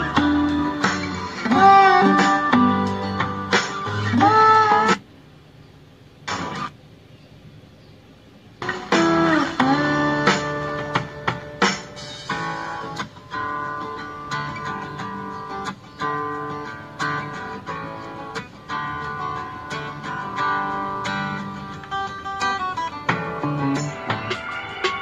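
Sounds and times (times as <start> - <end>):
guitar music from small speakers: 0.0 - 5.0, 6.3 - 6.7, 8.6 - 25.0.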